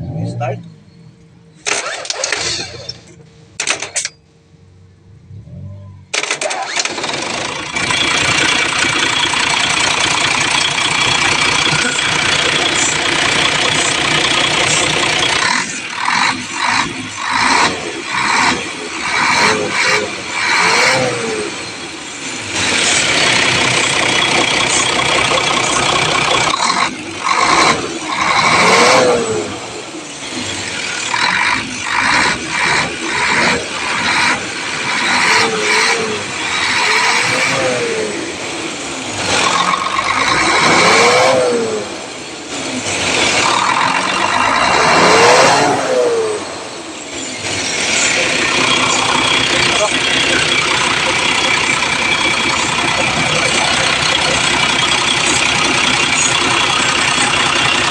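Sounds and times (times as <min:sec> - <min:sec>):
diesel engine revving: 0:00.0 - 0:57.9
engine rattling: 0:00.0 - 0:57.9.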